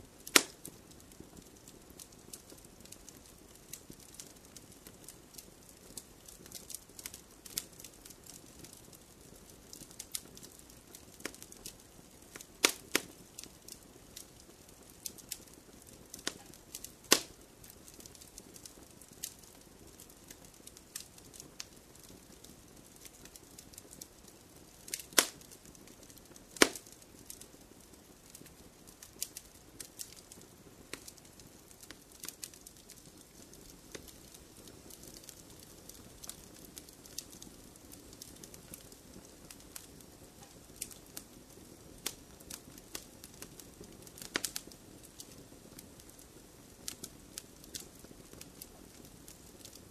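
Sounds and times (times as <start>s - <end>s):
wood fire crackling: 0.0s - 49.9s
loud sharp pops of fire: 0.1s - 49.9s.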